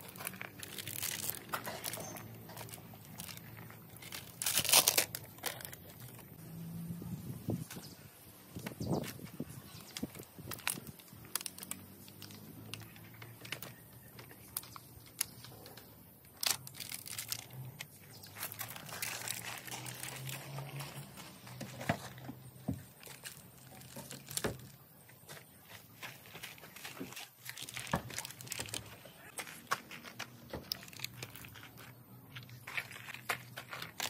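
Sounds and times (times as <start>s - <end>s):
plastic parts clicking and rattling: 0.0s - 6.3s, 8.6s - 24.8s, 26.0s - 34.0s
plastic crinkling: 0.0s - 6.4s, 8.6s - 34.0s.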